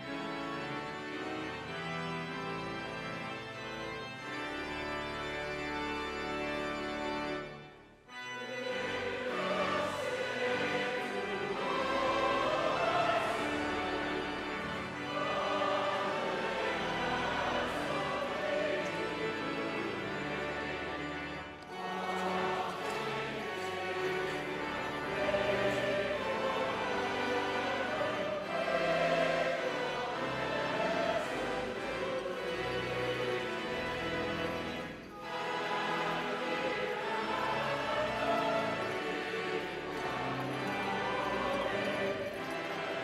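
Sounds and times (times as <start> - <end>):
church choir singing a hymn: 0.0 - 43.0.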